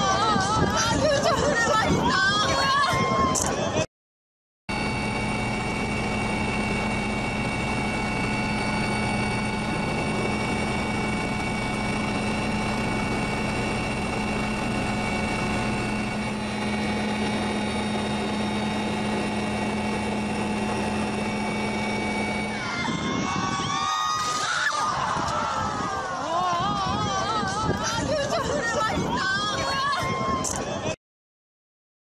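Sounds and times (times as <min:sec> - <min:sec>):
steady mechanical hum: 0:04.7 - 0:31.0.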